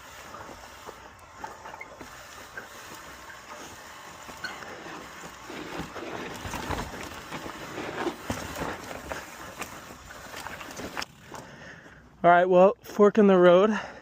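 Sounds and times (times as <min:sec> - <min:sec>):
bike knocks and rattles: 0:00.0 - 0:11.5
bike tyres rolling over rock: 0:00.0 - 0:12.0.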